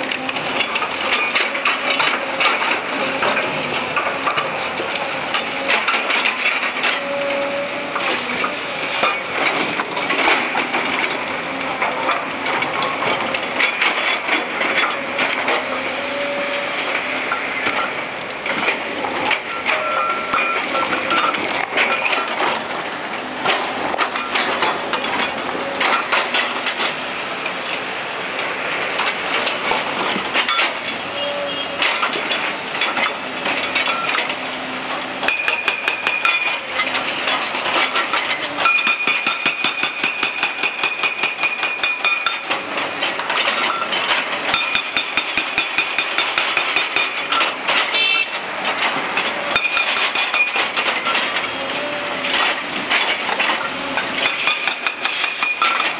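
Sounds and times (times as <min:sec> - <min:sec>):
hydraulic rock breaker hammering: 0:00.0 - 0:55.9.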